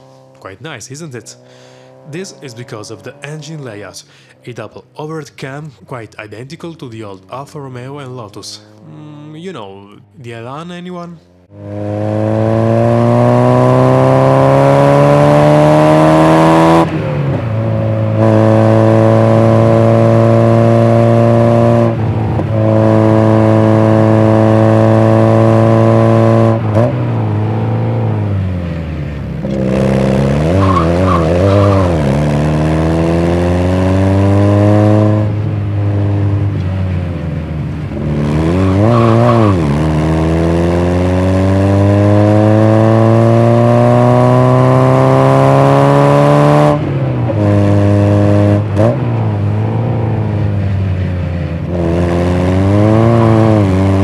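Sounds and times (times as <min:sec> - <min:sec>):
car engine revving hard: 0:01.3 - 0:04.3, 0:11.5 - 0:54.0.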